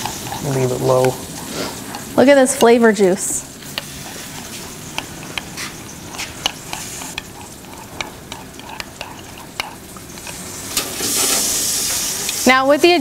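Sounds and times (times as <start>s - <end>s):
steady hiss: 0.0s - 8.9s, 9.5s - 13.0s
spoon clinking and scraping bowl: 0.0s - 13.0s.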